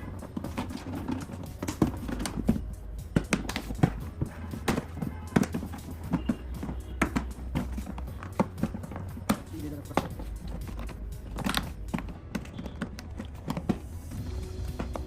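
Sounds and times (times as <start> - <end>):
mower parts clicking and knocking: 0.0 - 15.0.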